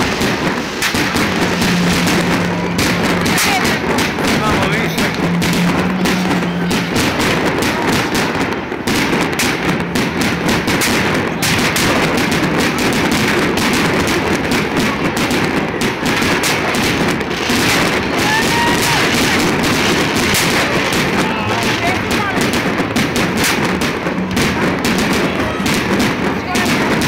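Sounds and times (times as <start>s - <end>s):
sharp cracks and bangs: 0.0s - 27.0s.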